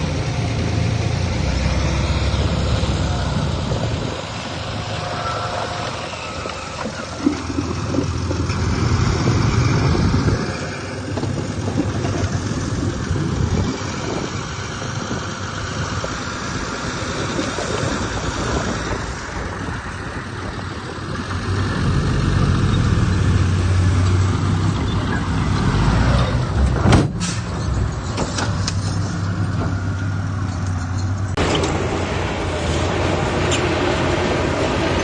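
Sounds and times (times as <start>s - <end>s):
heavy machinery diesel engines: 0.0s - 35.0s.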